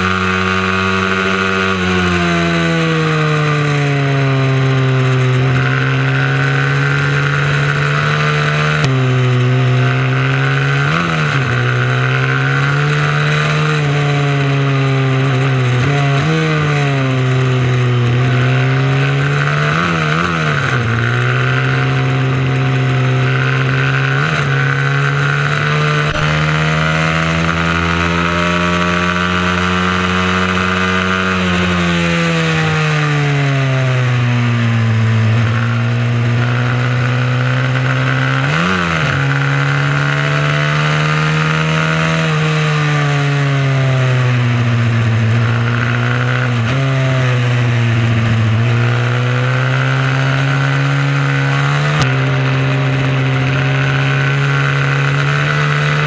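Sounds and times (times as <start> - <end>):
motorcycle engine racing: 0.0 - 56.0
second motorcycle engine: 0.0 - 56.0.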